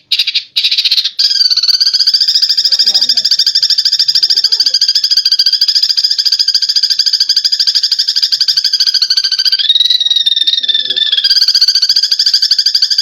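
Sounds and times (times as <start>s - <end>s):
sparrows chattering: 0.0s - 13.0s.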